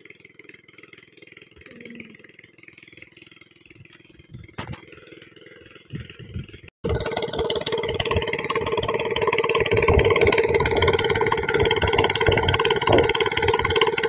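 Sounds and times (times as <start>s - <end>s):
small gasoline engine running: 0.0s - 14.0s
sprayer pump hum: 0.0s - 14.0s.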